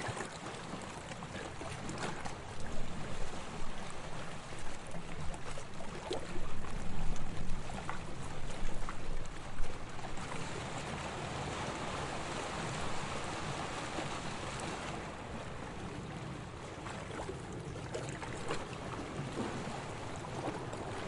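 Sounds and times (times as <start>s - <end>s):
sea water lapping: 0.0s - 21.0s
small water splashes: 0.0s - 21.0s.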